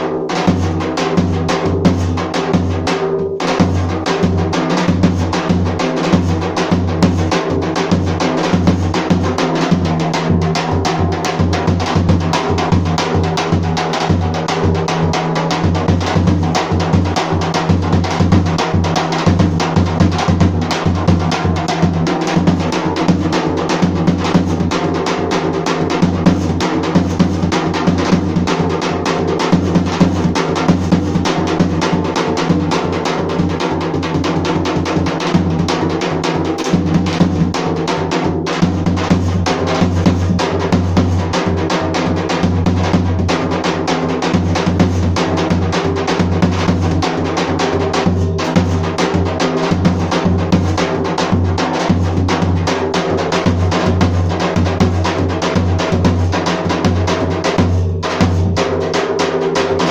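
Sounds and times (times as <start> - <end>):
bass drum fast rhythm: 0.0 - 59.9.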